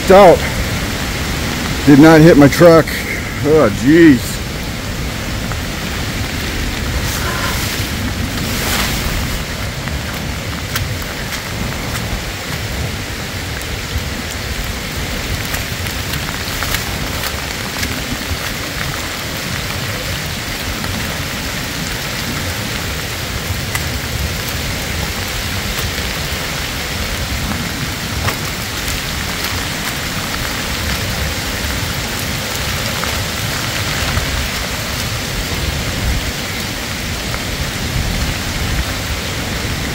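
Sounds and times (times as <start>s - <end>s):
heavy rain falling on woods: 0.0s - 39.9s
wind rumble on microphone: 3.2s - 39.9s.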